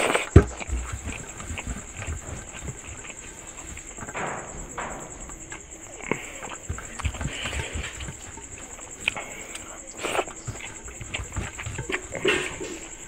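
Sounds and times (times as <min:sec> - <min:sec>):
chewing sounds: 0:00.0 - 0:13.0
fingers scraping metal plate: 0:00.0 - 0:13.0.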